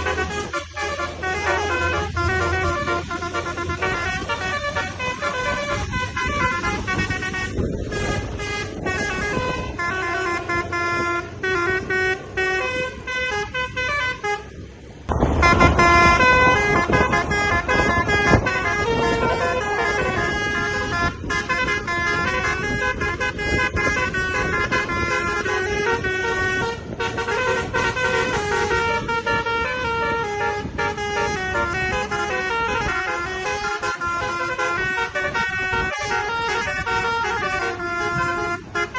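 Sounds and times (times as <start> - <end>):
bus musical horn melody: 0.0 - 38.9.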